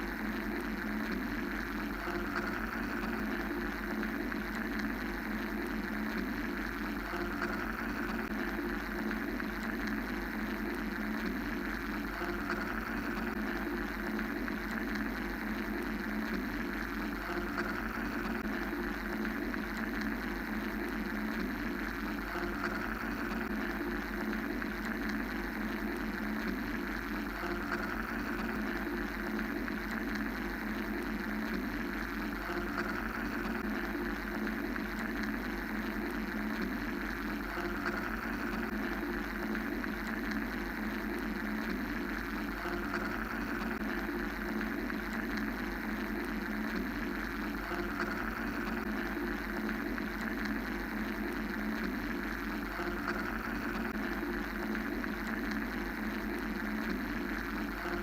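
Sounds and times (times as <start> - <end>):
mechanical droning hum: 0.0 - 58.0.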